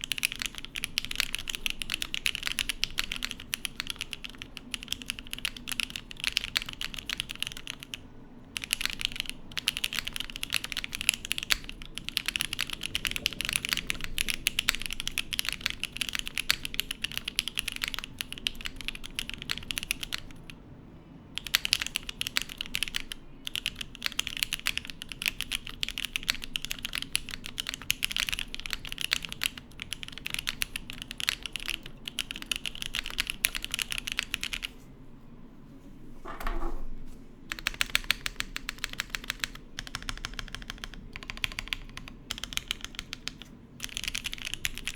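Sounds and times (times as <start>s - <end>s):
typing on mechanical keyboard: 0.0s - 20.6s, 21.4s - 34.7s, 37.5s - 44.9s.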